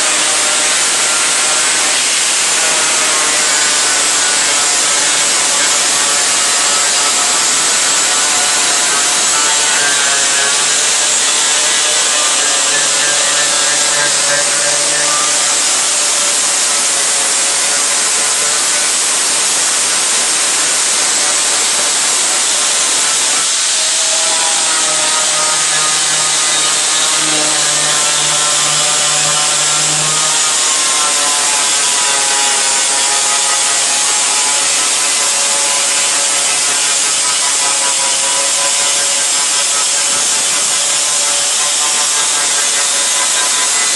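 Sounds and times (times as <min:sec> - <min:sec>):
power tool on metal panel: 0:00.0 - 0:43.9.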